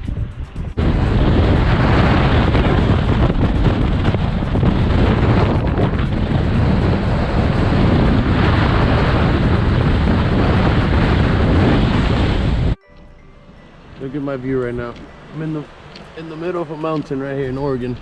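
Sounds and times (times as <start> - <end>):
wind buffeting microphone: 0.0 - 12.8, 13.9 - 18.0
ocean surf: 0.8 - 12.8, 13.6 - 18.0.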